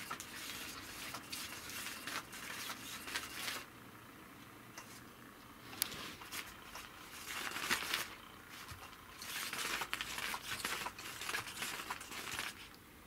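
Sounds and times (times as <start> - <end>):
crinkly rustling of cat toy: 0.0 - 3.7, 5.9 - 12.7.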